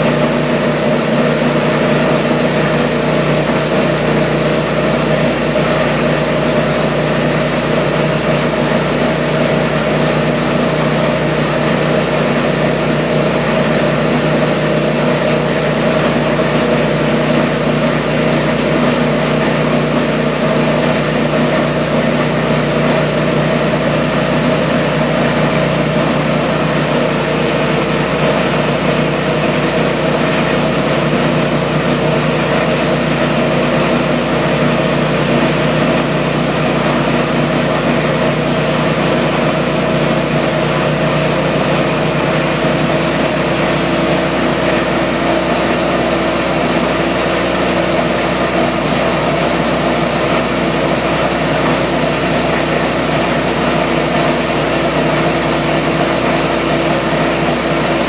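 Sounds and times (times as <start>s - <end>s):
disintegrator machine humming: 0.0s - 58.0s.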